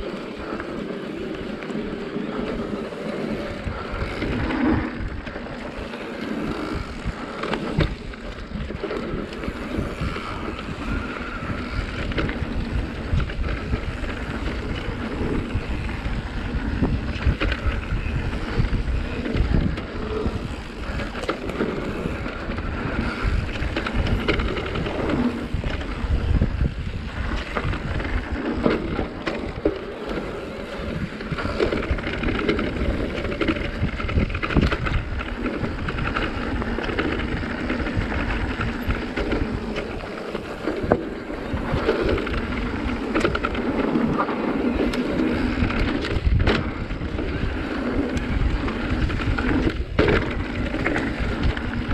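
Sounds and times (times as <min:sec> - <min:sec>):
bike tyres rumbling on dirt: 0:00.0 - 0:51.9
wind buffeting microphone: 0:00.0 - 0:51.9
bike knocks and rattles: 0:03.7 - 0:51.9.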